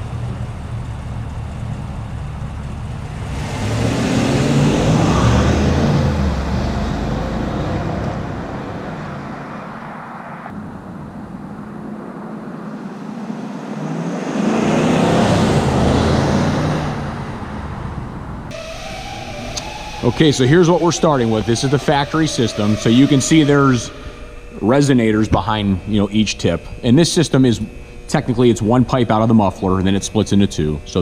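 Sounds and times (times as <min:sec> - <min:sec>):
car engine accelerating: 0:00.0 - 0:31.0
road noise: 0:00.0 - 0:31.0.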